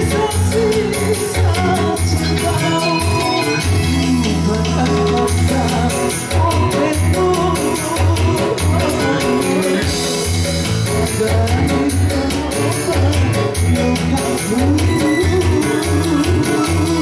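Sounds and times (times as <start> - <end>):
person singing: 0.0 - 17.0
pulsing bass line: 0.0 - 17.0
steady drum beat: 0.0 - 17.0.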